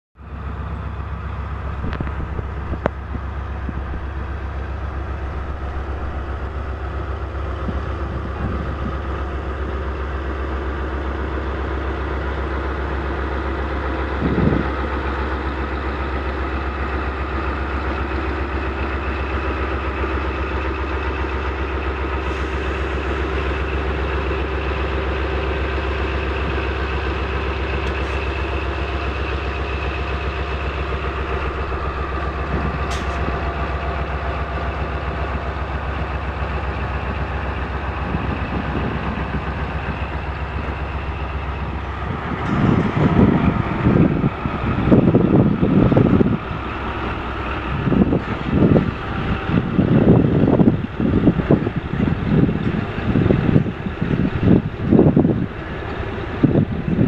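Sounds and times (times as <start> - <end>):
locomotive engine humming: 0.2 - 57.0.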